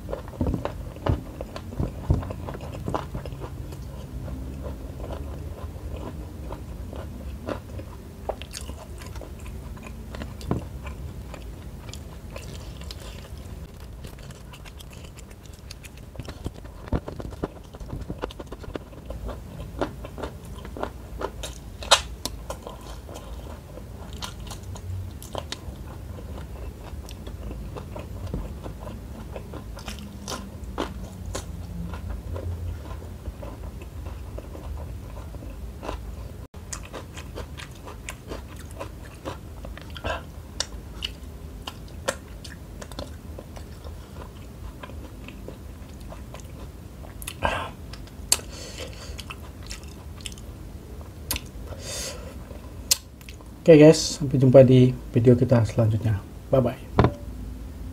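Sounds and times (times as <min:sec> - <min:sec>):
person chewing food: 0:00.0 - 0:53.6.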